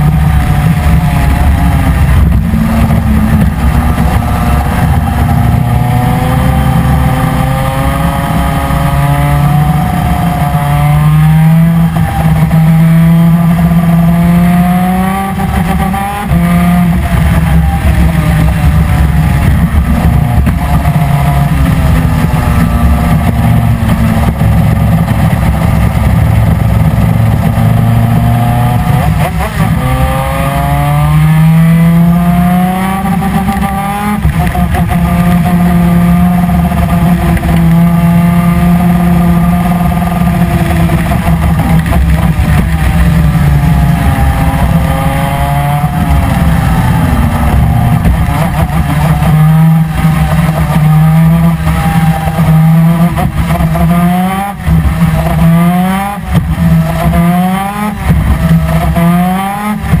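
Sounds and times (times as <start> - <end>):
kart engine revving: 0.0 - 60.0.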